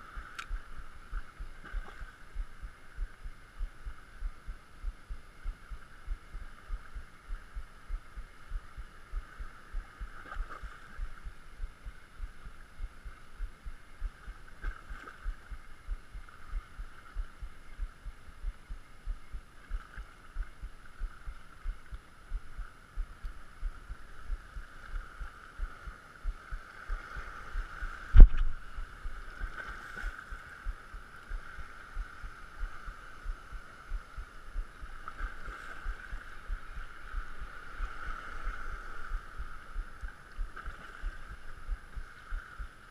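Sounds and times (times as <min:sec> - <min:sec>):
low steady thumping: 0:00.0 - 0:38.1, 0:39.0 - 0:42.9.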